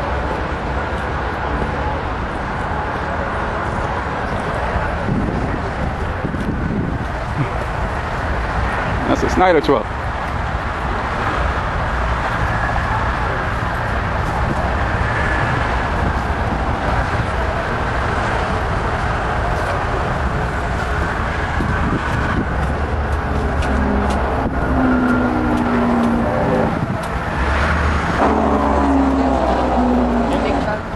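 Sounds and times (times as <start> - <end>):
diesel truck engines rumbling: 0.0 - 30.9.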